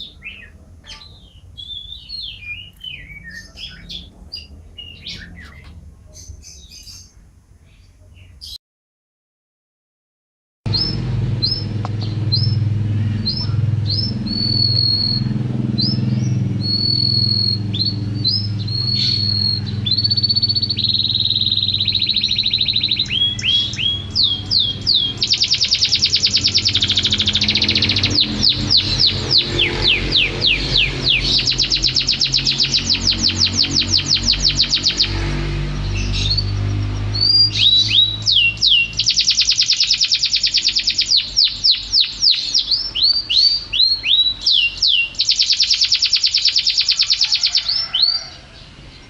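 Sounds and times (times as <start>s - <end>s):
songbird singing: 0.0s - 8.6s, 10.7s - 49.0s.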